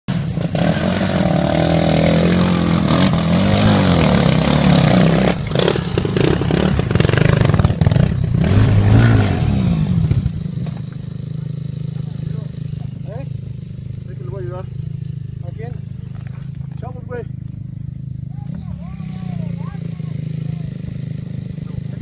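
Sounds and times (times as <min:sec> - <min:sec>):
dirt bike engines revving: 0:00.1 - 0:22.0.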